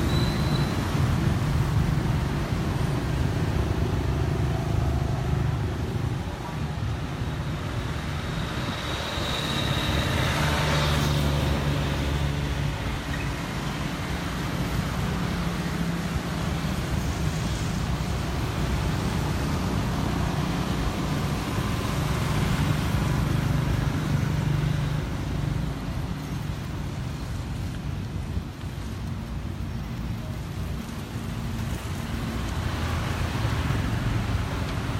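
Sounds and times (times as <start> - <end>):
vehicles passing: 0.0 - 34.9.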